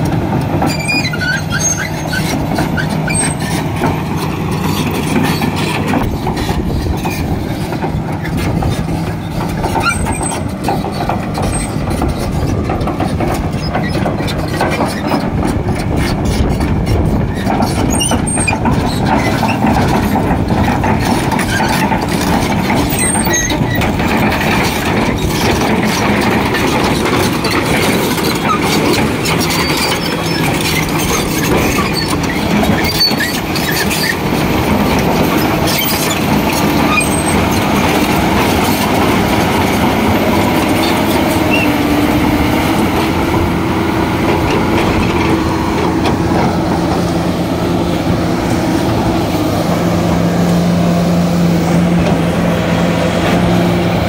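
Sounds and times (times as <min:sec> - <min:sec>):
excavator engine clattering: 0:00.0 - 0:54.0.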